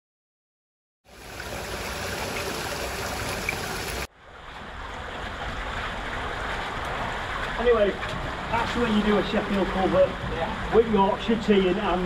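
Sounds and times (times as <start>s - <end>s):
rushing water: 1.1s - 12.0s.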